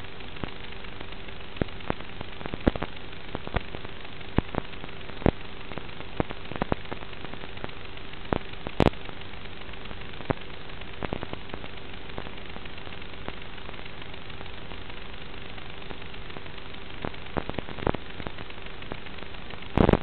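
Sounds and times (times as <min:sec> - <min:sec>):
crackling clicks: 0:00.0 - 0:20.0
faint steady hum: 0:00.0 - 0:20.0
static hiss: 0:00.0 - 0:20.0.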